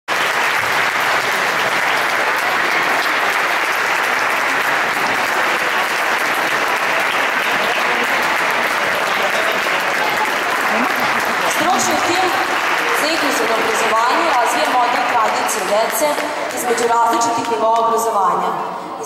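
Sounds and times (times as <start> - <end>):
audience applauding: 0.1 - 18.0.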